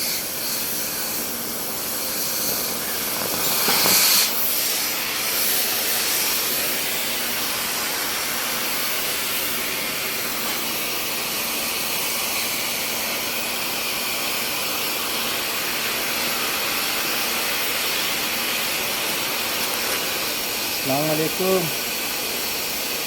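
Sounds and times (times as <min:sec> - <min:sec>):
welding hiss: 0:00.0 - 0:23.0.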